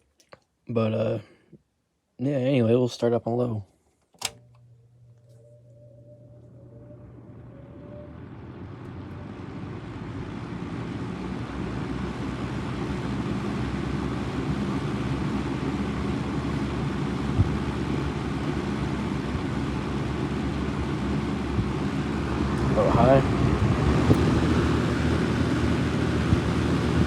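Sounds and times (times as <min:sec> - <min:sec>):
fan blowing air: 0:02.3 - 0:27.0
fan motor hum: 0:02.4 - 0:27.0.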